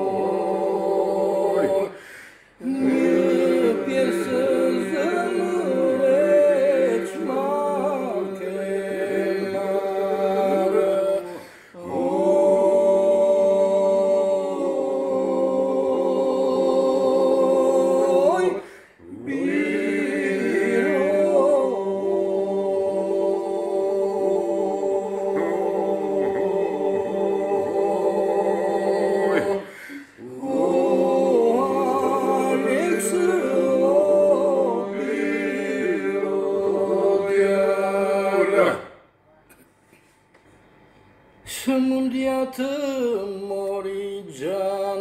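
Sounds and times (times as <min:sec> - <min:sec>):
unaccompanied polyphonic singing: 0:00.0 - 0:39.0.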